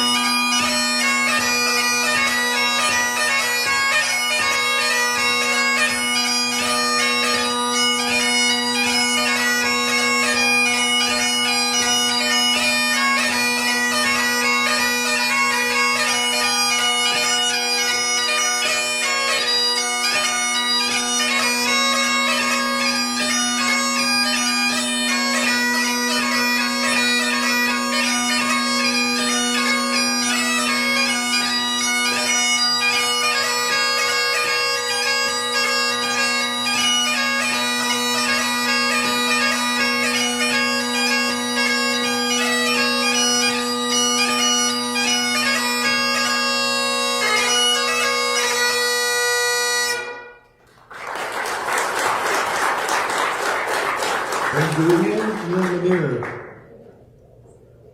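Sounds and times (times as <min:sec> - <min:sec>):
bagpipe playing a tune: 0:00.0 - 0:50.6.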